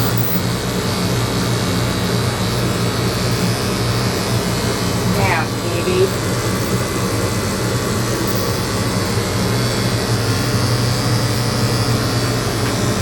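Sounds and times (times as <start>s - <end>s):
electric clippers buzzing: 0.0s - 13.0s.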